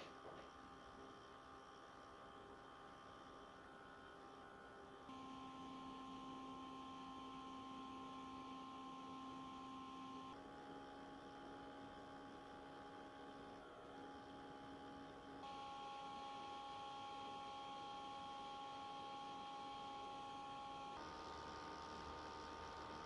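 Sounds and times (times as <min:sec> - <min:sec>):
laptop cooling fan hum: 0:00.0 - 0:23.0.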